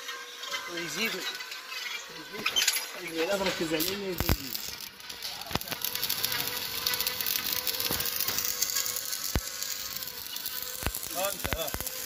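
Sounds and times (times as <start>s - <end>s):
welding arc crackling and sizzling: 0.0s - 12.0s
sharp welding pops: 1.4s - 12.0s.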